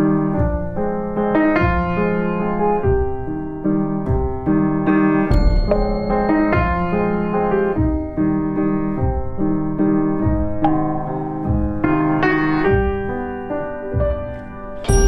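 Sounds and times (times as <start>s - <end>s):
gentle solo piano piece: 0.0s - 15.0s.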